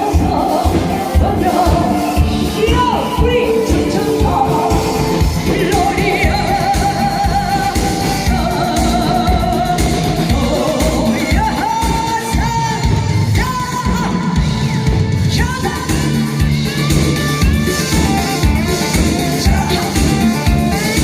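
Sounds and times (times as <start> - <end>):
upbeat pop backing track: 0.0 - 21.0.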